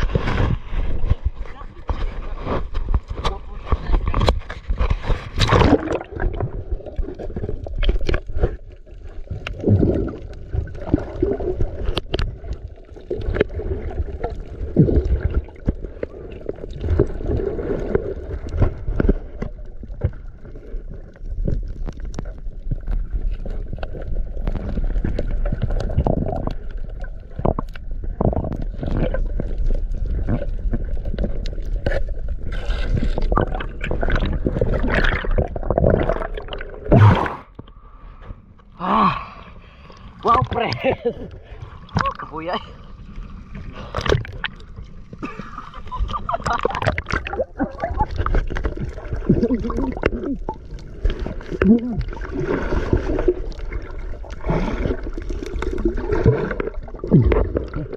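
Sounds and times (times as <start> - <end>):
water sloshing and gurgling: 0.0 - 57.9.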